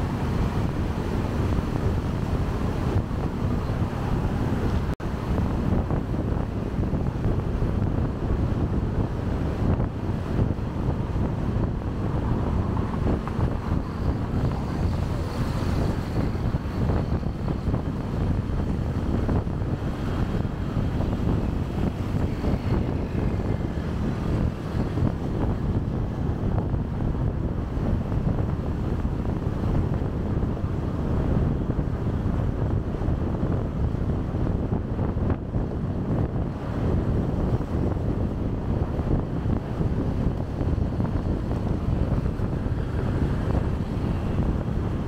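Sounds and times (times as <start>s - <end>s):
motorcycle road noise rumble: 0.0s - 45.0s
wind buffeting microphone: 0.0s - 45.0s.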